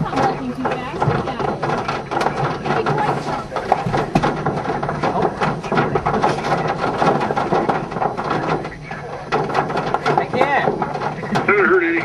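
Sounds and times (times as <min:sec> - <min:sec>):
faint voices: 0:00.0 - 0:12.0
hail and rain hitting a car: 0:00.0 - 0:12.0.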